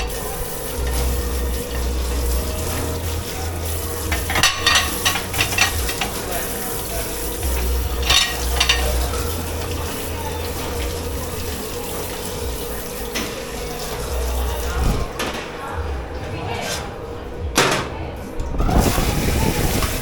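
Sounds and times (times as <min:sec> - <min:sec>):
running water: 0:00.0 - 0:16.2, 0:18.3 - 0:20.0
dishes clattering: 0:00.0 - 0:18.8
constant hum: 0:00.0 - 0:20.0.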